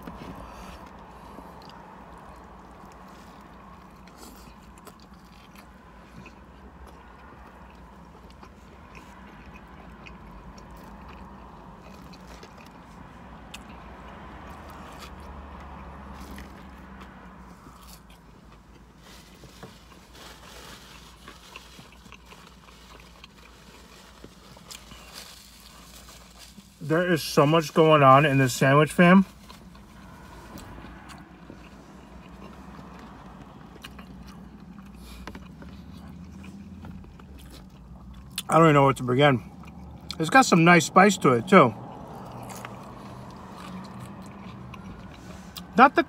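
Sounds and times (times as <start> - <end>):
biting and crunching: 0.0 - 26.7, 29.3 - 38.6, 41.8 - 45.8.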